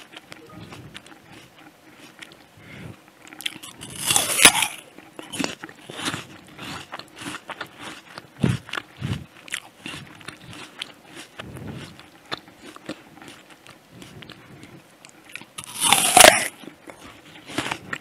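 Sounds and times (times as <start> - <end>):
apple crunching: 0.0 - 18.0
chewing crunches: 0.0 - 18.0.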